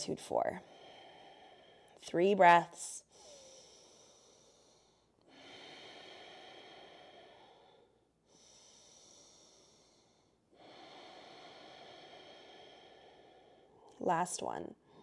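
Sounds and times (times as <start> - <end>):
person breathing through nose: 0.6 - 2.0, 3.0 - 13.9.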